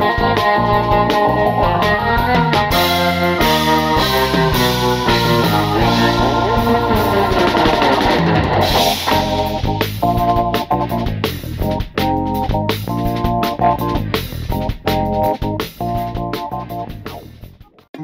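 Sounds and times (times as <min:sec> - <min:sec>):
instrumental music with held chords: 0:00.0 - 0:18.0.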